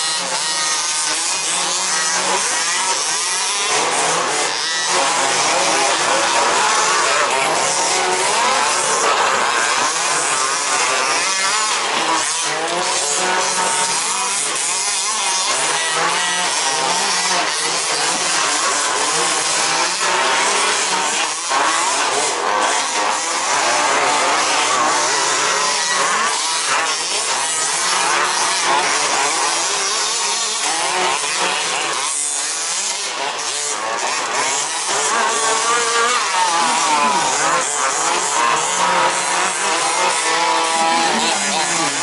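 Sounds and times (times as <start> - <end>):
small two-stroke engines buzzing: 0.0 - 42.0.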